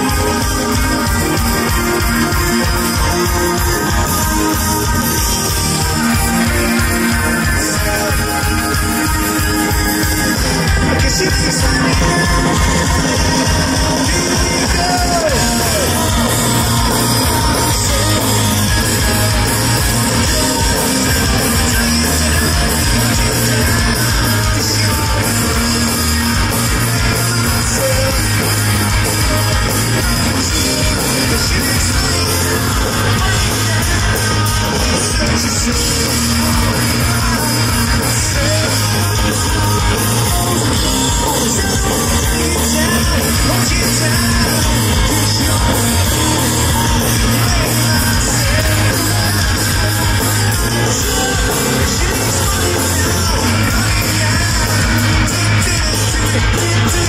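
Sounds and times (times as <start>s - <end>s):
drums: 0.0s - 57.0s
electric guitars: 0.0s - 57.0s
person singing: 0.0s - 57.0s.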